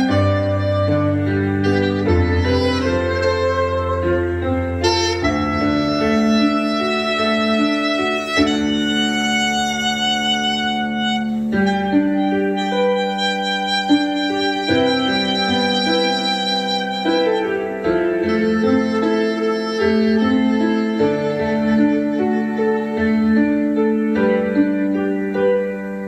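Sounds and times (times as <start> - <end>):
backing track with bass and piano: 0.0 - 26.0
soprano saxophone melody: 0.0 - 26.0.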